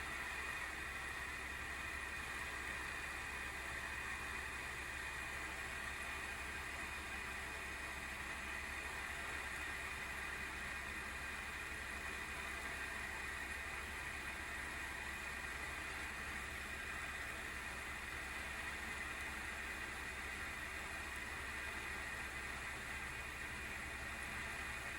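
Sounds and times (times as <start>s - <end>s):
graphics card fan whirring: 0.0s - 24.9s.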